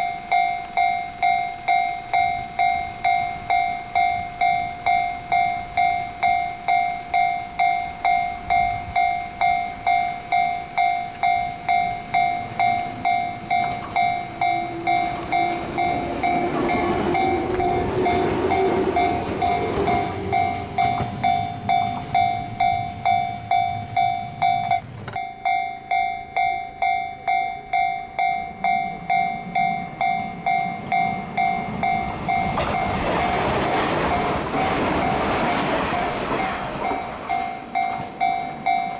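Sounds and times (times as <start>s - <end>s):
level-crossing alarm ringing: 0.0s - 38.9s
train passing: 0.0s - 38.9s.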